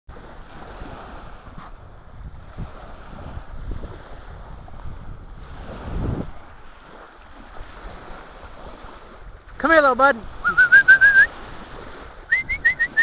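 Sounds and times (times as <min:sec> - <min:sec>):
surf washing: 0:00.1 - 0:13.0
wind buffeting microphone: 0:00.1 - 0:13.0.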